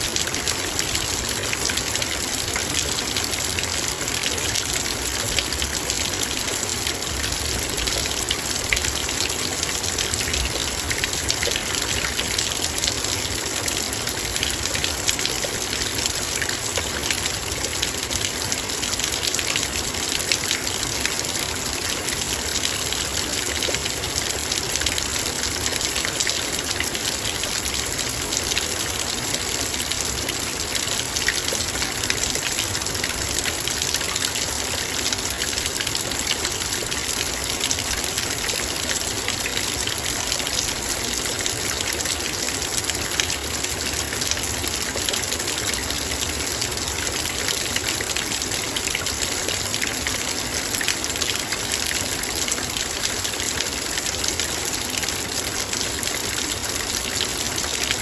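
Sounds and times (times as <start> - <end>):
rain on a metal bowl: 0.0 - 58.0.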